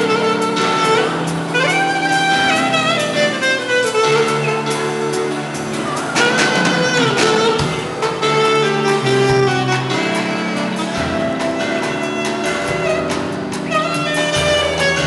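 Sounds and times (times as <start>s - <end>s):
lead melody with sliding notes: 0.0s - 15.0s.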